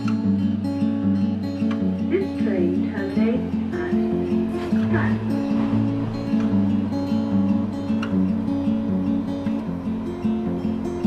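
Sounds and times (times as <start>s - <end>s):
acoustic guitar song: 0.0s - 11.0s.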